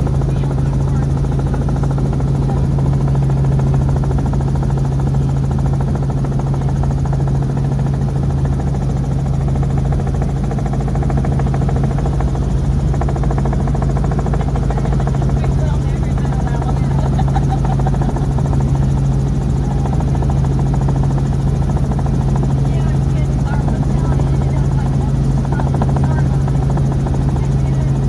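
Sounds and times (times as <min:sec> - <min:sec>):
helicopter engine drone: 0:00.0 - 0:28.0
helicopter rotor pulse: 0:00.0 - 0:28.0.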